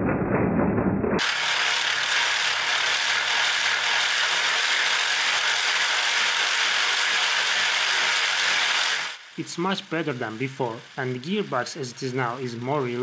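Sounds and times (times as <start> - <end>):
gearbox whirring: 1.2 - 13.0.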